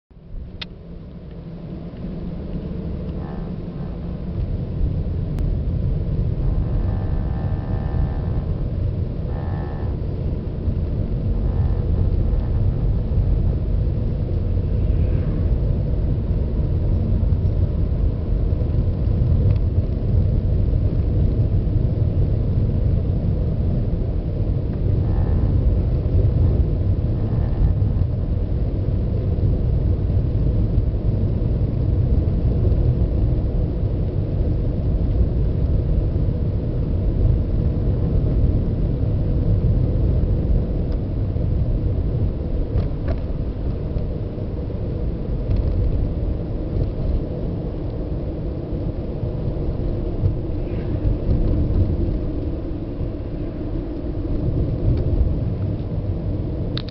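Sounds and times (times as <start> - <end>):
car road and engine rumble: 0.1 - 56.9.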